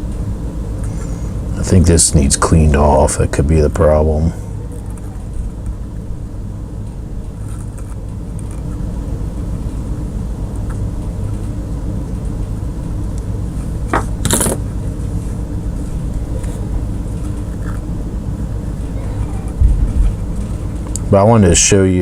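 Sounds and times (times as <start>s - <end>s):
soldering gun humming: 0.0s - 21.1s.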